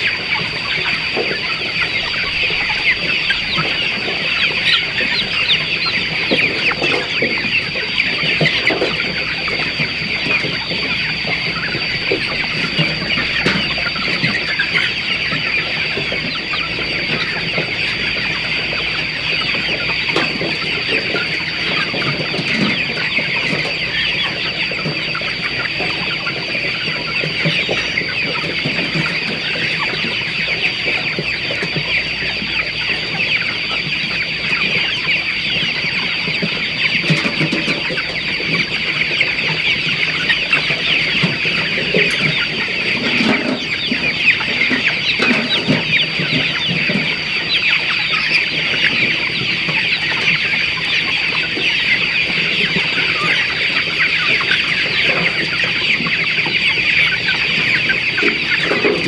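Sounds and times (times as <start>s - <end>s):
chickens calling: 0.0s - 59.0s.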